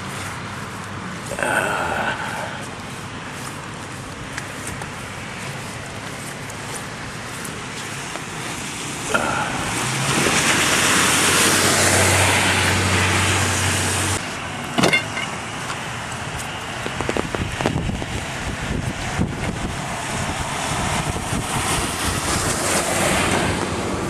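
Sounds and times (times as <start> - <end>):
tyres hissing on wet road: 0.0 - 14.7, 15.3 - 24.0
car engine hum: 0.0 - 24.0.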